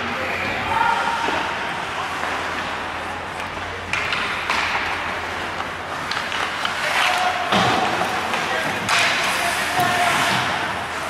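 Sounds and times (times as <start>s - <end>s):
crowd noise and voices: 0.0s - 11.0s.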